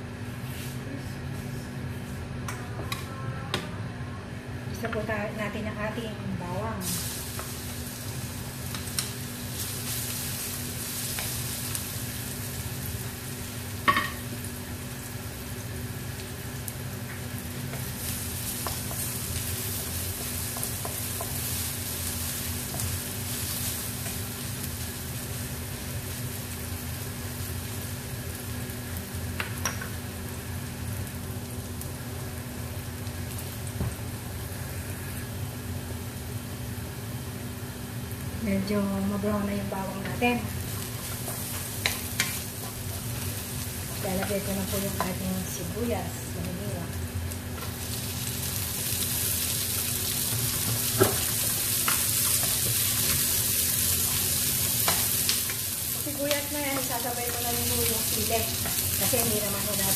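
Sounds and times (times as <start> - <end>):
steady low hum: 0.0 - 59.9
garlic sizzling in oil: 6.8 - 59.9.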